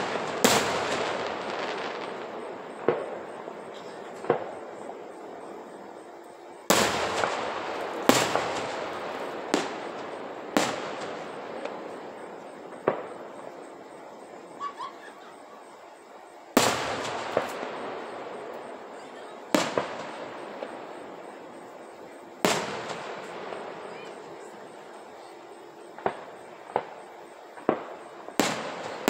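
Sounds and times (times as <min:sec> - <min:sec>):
firework shells booming: 0:00.0 - 0:29.0.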